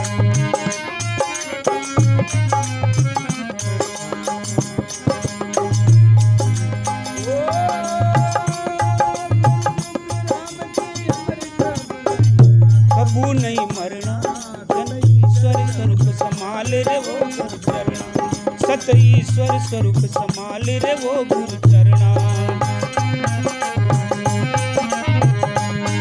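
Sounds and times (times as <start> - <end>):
folk devotional melody: 0.0 - 26.0
jingling rattle percussion: 0.0 - 26.0.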